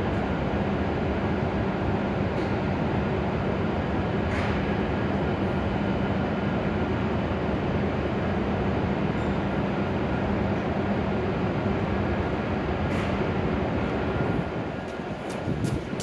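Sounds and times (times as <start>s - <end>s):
train equipment hum and hiss: 0.0s - 16.0s.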